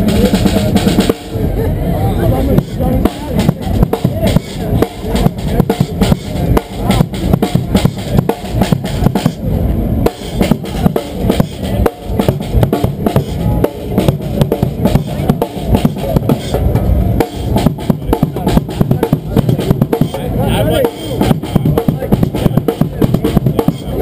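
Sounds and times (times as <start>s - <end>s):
drum kit fast groove: 0.0s - 24.0s.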